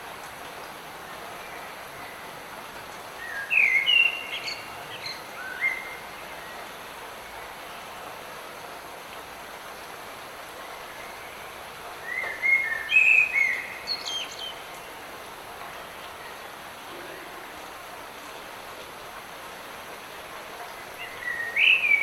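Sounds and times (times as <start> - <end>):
light rain hissing: 0.0 - 22.0.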